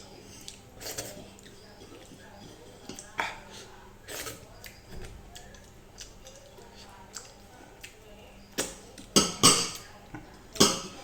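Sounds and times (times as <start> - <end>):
soft chewing: 0.0 - 11.0.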